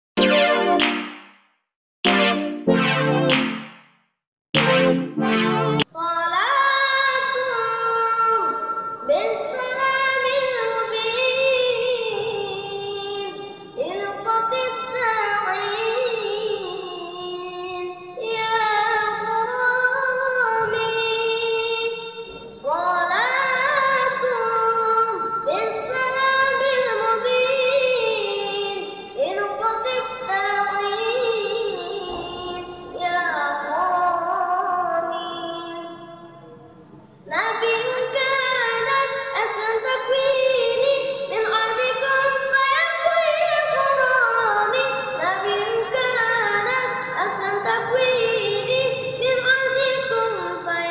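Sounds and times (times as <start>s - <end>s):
boy singing devotional song: 5.9s - 50.9s.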